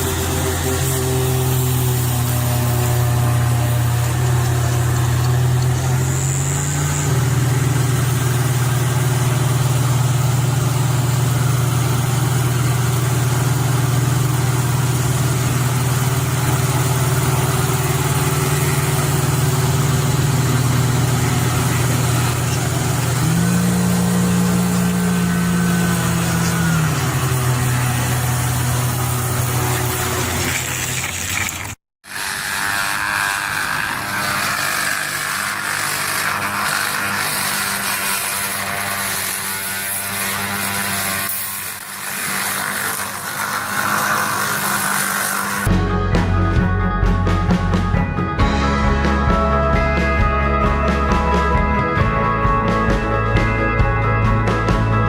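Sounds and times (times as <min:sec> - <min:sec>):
large engine droning: 0:00.0 - 0:55.0.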